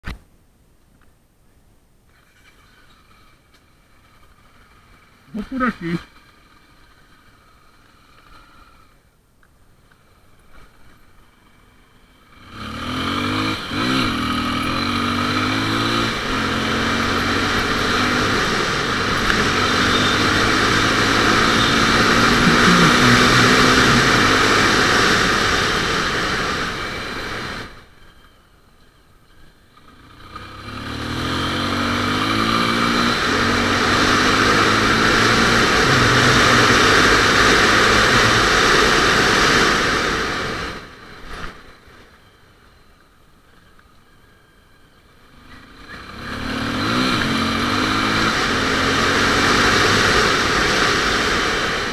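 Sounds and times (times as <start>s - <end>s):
motorcycle engine accelerating: 2.3s - 9.1s, 10.0s - 28.4s, 29.8s - 42.4s, 45.2s - 51.9s.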